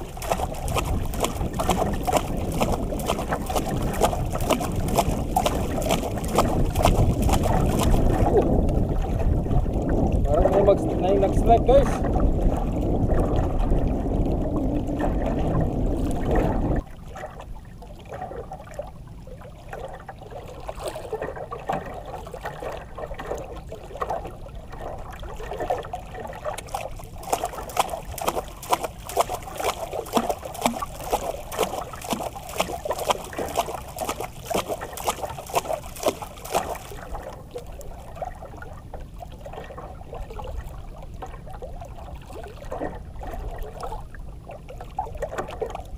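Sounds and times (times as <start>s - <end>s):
water lapping against hull: 0.0s - 45.9s.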